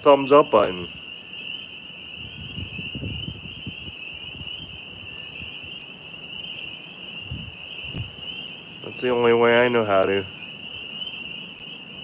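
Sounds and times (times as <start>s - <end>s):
night insects trilling: 0.0s - 12.0s
wind buffeting microphone: 0.0s - 12.0s.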